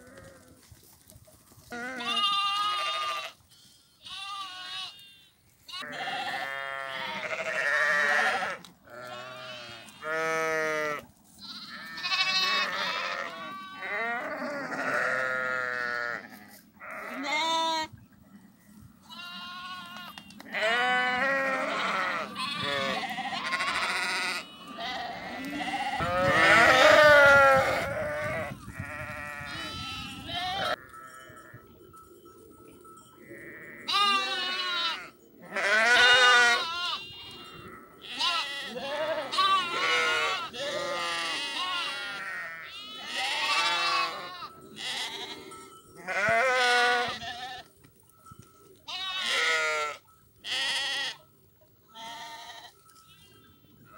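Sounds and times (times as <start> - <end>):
sheep and lambs bleating: 0.0 - 0.7, 1.6 - 18.0, 19.0 - 31.7, 32.9 - 47.8, 48.8 - 51.3, 51.9 - 53.9.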